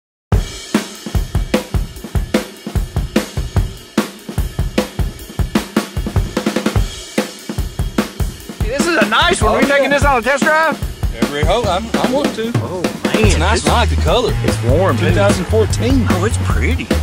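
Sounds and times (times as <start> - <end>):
drum kit beat: 0.3 - 17.0.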